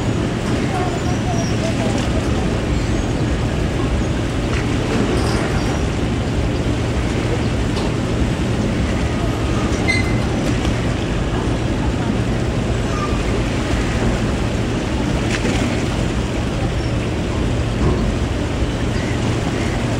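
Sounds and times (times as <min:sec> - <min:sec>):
ship engines humming: 0:00.0 - 0:19.9.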